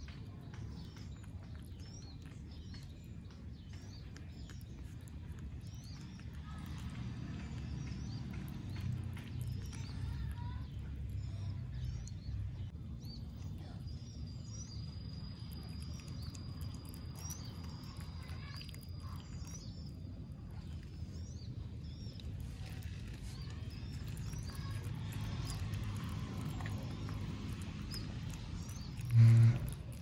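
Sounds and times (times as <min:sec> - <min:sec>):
birds chirping: 0:00.0 - 0:30.0
otter chewing wet clicks: 0:00.0 - 0:30.0.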